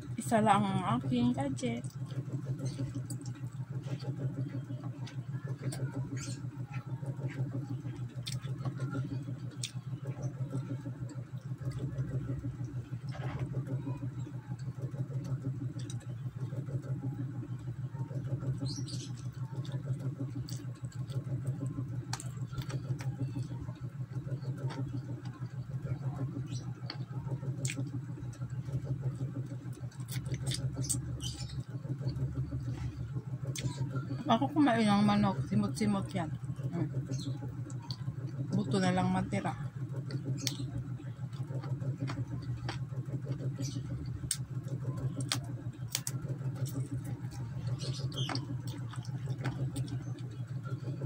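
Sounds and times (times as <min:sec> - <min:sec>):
steady low hum: 0:00.0 - 0:51.0
person chewing and lip-smacking: 0:01.8 - 0:17.4, 0:18.2 - 0:34.0, 0:39.9 - 0:51.0.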